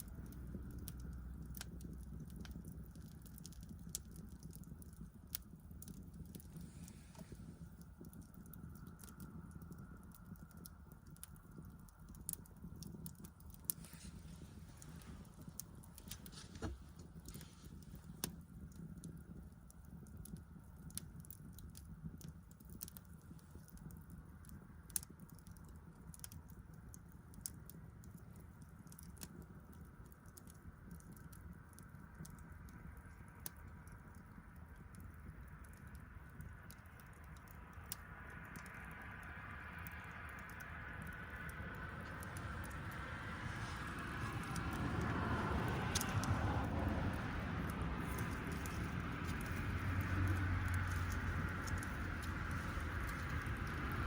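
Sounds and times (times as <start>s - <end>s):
faint low rumble: 0.0s - 54.0s
wood fire crackling: 0.0s - 54.0s.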